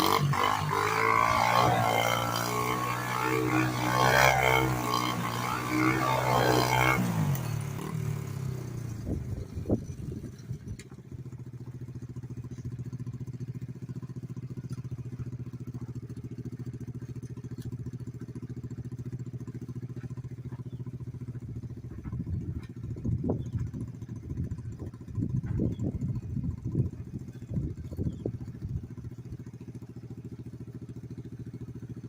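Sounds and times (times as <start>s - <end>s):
small motorcycle engine idling: 0.0s - 32.0s.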